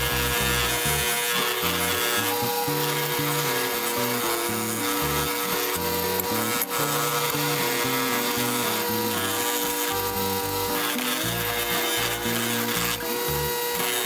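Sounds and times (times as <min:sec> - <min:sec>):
motor hum: 0:00.0 - 0:14.0.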